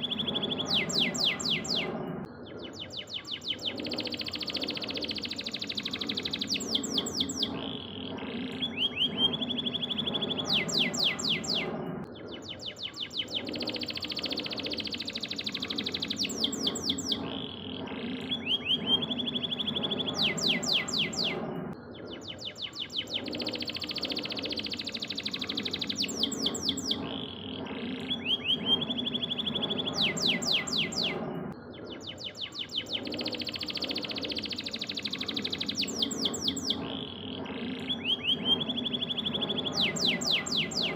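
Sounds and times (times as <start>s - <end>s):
canary singing trills: 0.0s - 40.9s
steady low rumble: 0.0s - 40.9s.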